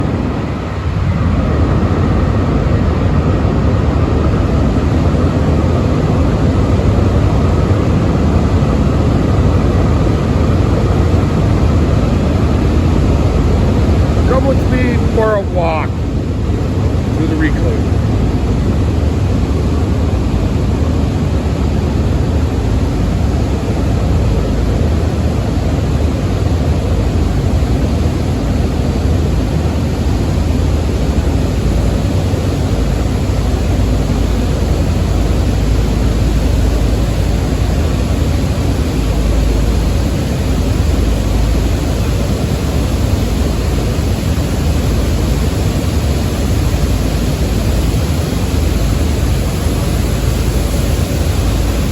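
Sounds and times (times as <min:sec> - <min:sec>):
ship machinery rumbling hum: 0:00.0 - 0:51.9.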